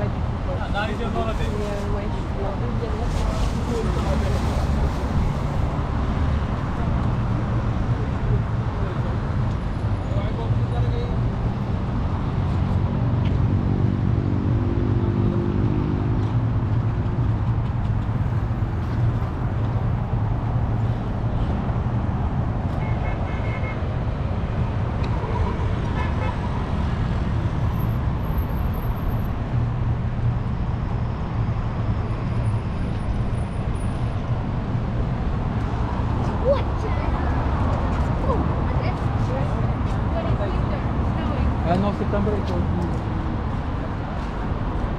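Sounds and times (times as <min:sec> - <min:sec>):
passing vehicles rumble: 0:00.0 - 0:44.9.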